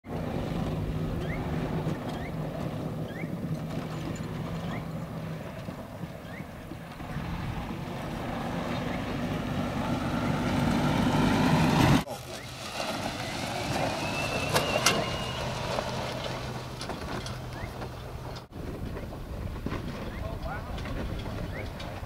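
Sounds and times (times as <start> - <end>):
golf cart motor: 0.1 - 22.0.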